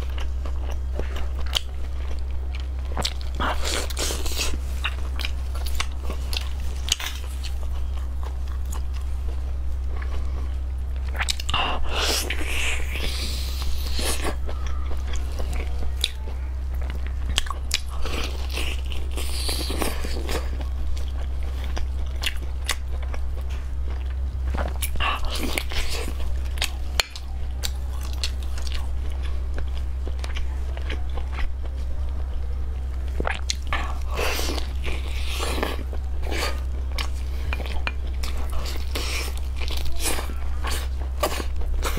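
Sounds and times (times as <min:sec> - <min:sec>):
person chewing meat: 0:00.0 - 0:41.9
steady low hum: 0:00.0 - 0:41.9.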